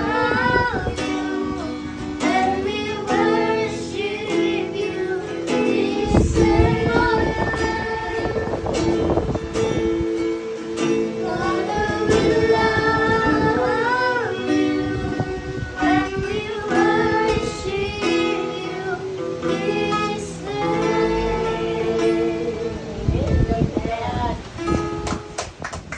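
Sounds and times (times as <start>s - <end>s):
children singing: 0.0s - 24.4s
strummed string instrument: 0.0s - 25.6s.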